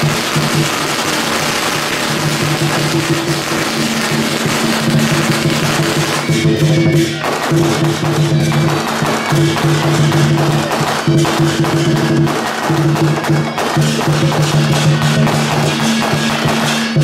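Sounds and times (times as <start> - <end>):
cymbals and gongs clashing: 0.0 - 17.0
drums: 0.0 - 17.0.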